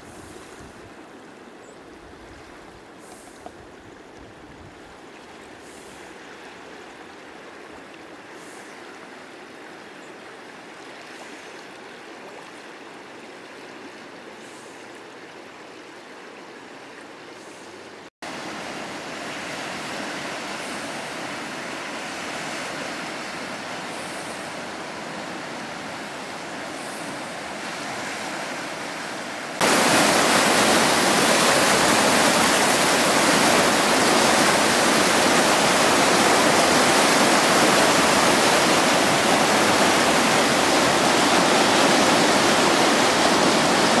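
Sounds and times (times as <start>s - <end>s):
rushing river water: 0.0s - 44.0s.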